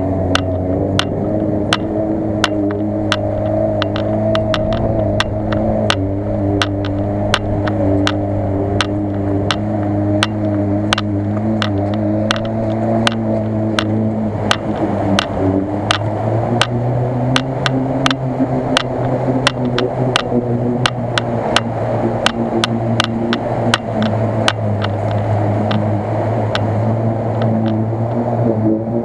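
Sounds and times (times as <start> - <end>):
car engine droning under load: 0.0 - 29.0
sharp clicks: 0.3 - 25.9.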